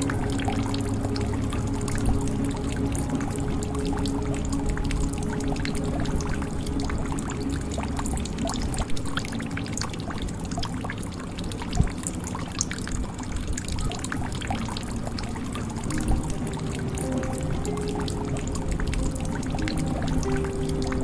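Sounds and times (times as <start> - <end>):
water dripping into a jug: 0.0 - 21.0
water pouring: 0.0 - 21.0.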